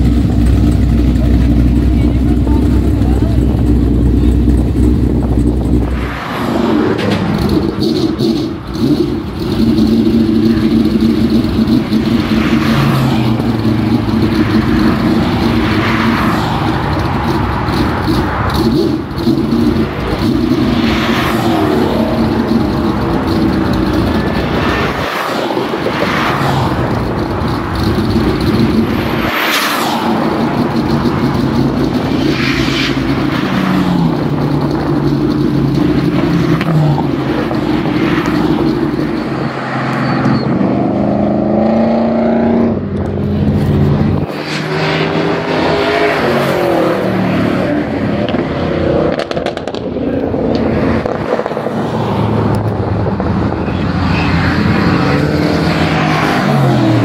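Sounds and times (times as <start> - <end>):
race car engine revving: 0.0 - 57.0
wind buffeting: 2.8 - 57.0.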